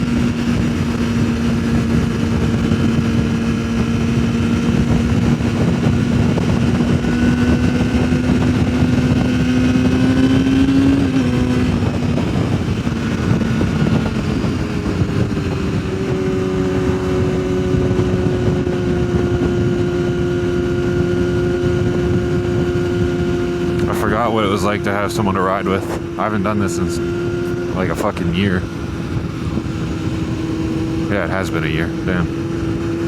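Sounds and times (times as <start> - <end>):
motorcycle engine running: 0.0 - 33.0
wind rushing: 0.0 - 33.0.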